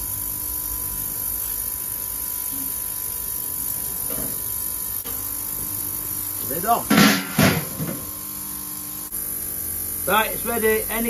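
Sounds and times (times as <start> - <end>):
electrical mains hum: 0.0 - 11.0
ultrasonic cleaner high hiss: 1.0 - 11.0.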